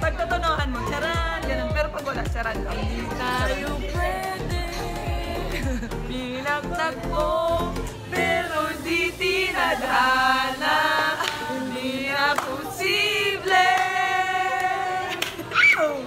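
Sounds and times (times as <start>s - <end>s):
women singing long notes: 0.0s - 16.0s.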